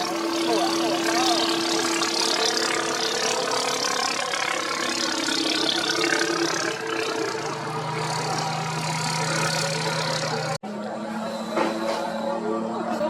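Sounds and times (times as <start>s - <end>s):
low steady engine note: 0.0s - 13.0s
racing boat engines running: 0.0s - 13.0s.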